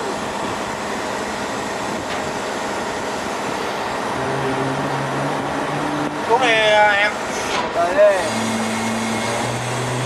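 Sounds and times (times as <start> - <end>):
low engine hum: 0.0 - 10.0
running machinery: 0.0 - 10.0.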